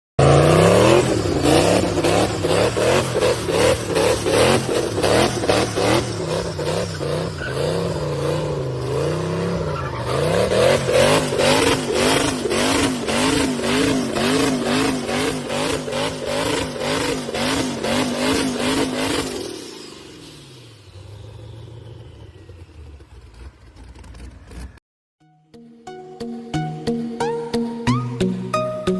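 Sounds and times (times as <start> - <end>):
car engine revving: 0.2 - 24.8.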